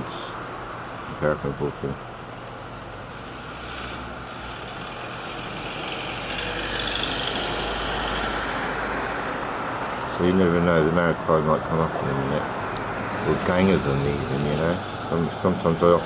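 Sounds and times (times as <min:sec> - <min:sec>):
heavy vehicle passing: 0:02.6 - 0:16.0.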